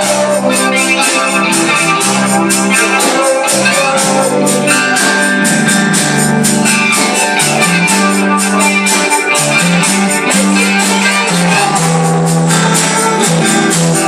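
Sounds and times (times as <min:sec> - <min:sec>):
gospel band playing: 0:00.0 - 0:14.0
organ chords: 0:00.0 - 0:14.0.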